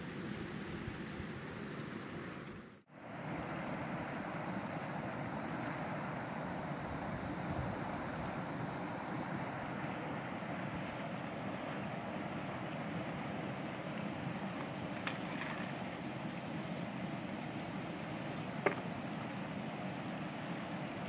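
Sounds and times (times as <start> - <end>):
river rushing over rocks: 2.9 - 21.0.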